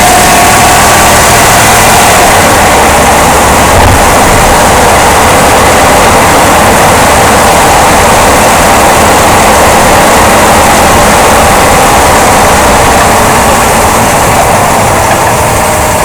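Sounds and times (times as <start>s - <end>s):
vehicle running roar: 0.0s - 16.0s.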